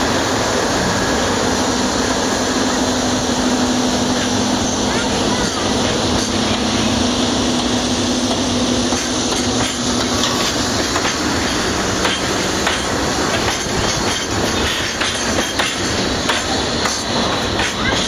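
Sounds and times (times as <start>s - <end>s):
train wheels clacking over rails: 0.0s - 18.0s.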